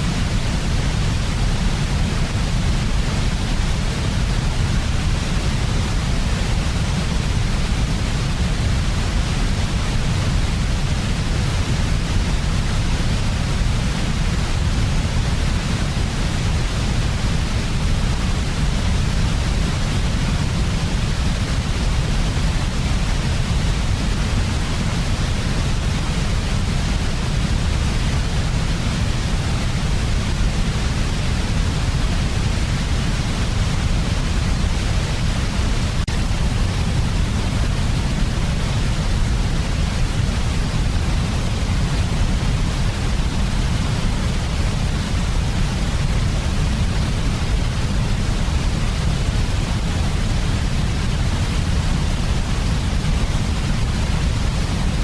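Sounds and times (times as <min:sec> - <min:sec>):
faint hiss: 0:00.0 - 0:55.0
low rumble noise: 0:00.0 - 0:55.0.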